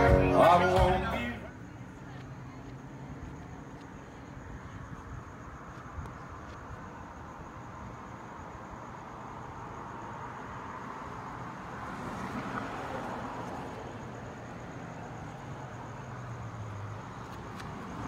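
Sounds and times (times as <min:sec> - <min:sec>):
faint high insect trill: 0:00.0 - 0:18.0
traffic hum: 0:00.0 - 0:18.0.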